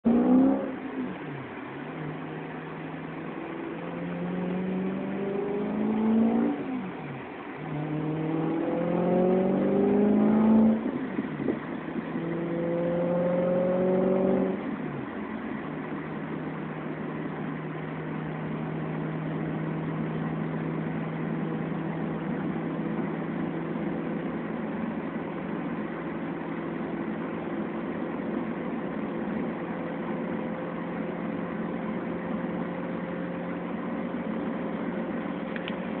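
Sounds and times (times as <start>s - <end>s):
car engine and exhaust accelerating: 0.0s - 36.0s.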